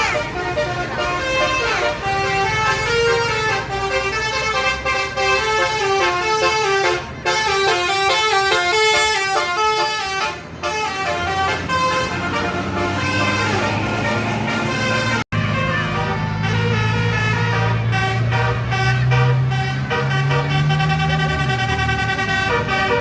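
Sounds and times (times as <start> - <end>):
bus horn playing tune: 0.0 - 23.0.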